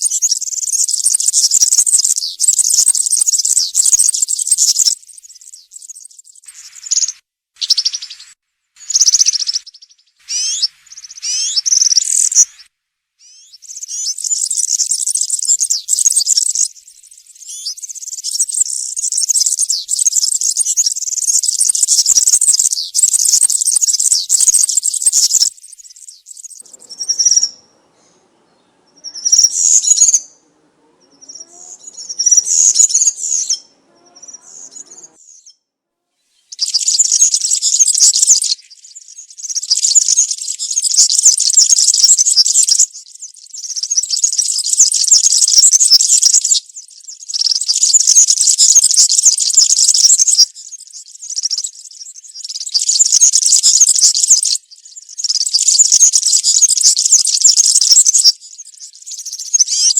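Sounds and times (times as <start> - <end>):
bird singing jingling song: 0.0 - 35.6, 36.4 - 59.9.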